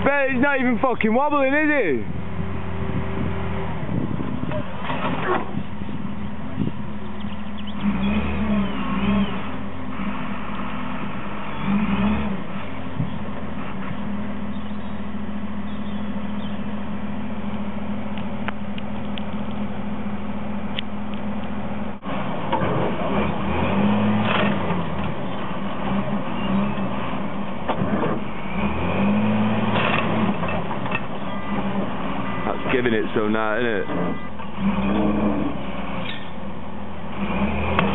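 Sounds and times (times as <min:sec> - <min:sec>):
diesel machinery engine revving: 0:00.0 - 0:37.9.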